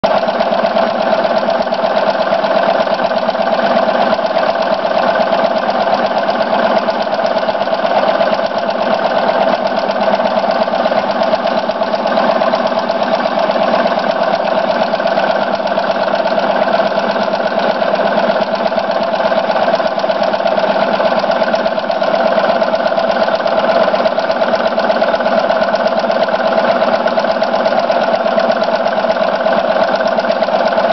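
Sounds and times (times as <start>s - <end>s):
embroidery machine stitching: 0.0s - 30.9s.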